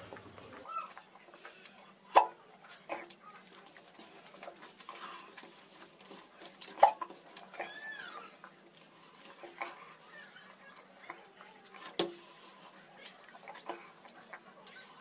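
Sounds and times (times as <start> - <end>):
wet squishing of rice by hand: 0.0 - 15.0.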